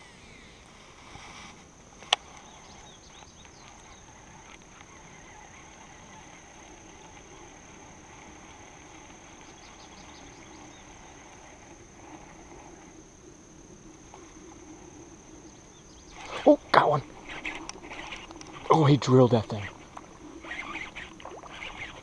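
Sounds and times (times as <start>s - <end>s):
insect drone: 0.0s - 22.0s
low background hiss: 0.0s - 22.0s.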